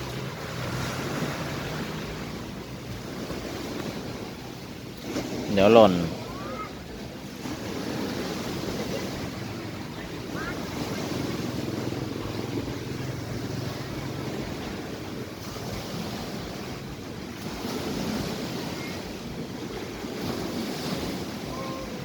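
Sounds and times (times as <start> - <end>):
sea waves washing onto shore: 0.0 - 22.0
wind buffeting microphone: 0.0 - 22.0.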